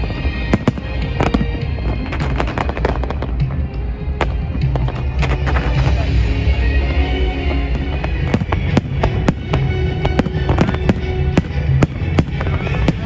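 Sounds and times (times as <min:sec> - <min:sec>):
fireworks bangs: 0:00.0 - 0:06.3, 0:06.9 - 0:13.0
music playing: 0:00.0 - 0:13.0.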